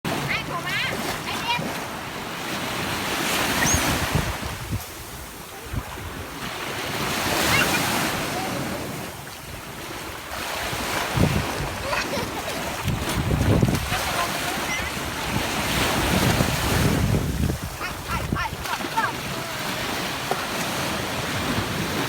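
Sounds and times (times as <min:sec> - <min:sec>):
sea surf washing in: 0:00.1 - 0:22.0
wind buffeting microphone: 0:02.7 - 0:22.0.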